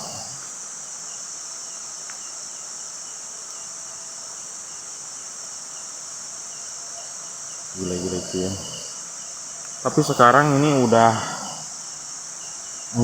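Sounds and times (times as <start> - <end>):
crickets and night insects chorus: 0.0 - 13.0.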